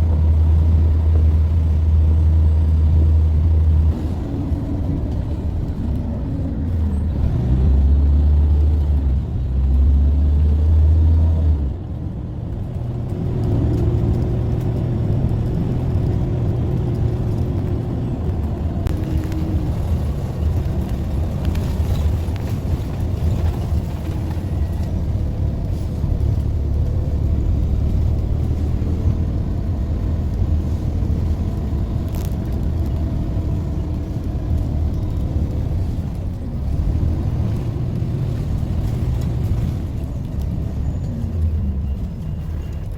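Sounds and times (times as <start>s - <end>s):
bus engine droning: 0.0s - 42.9s
road rumble: 0.0s - 42.9s.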